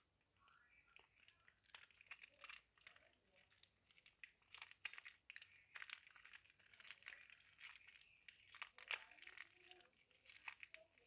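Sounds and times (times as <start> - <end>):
soap squished in a bowl: 0.0 - 11.0.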